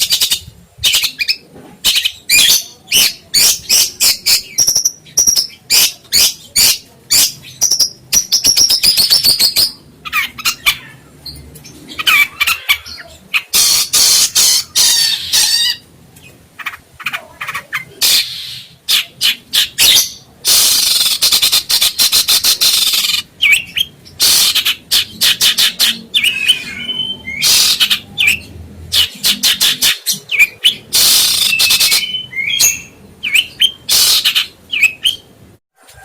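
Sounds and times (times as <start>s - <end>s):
songbird chirping and trilling: 0.0s - 35.4s.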